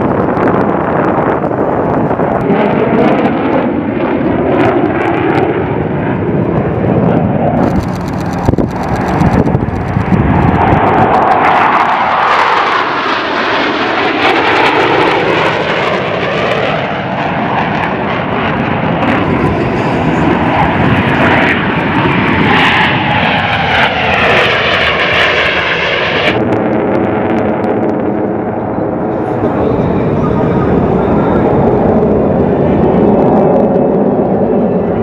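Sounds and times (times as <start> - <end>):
fighter jets flying past: 0.0 - 35.0
steady jet whine: 0.0 - 35.0.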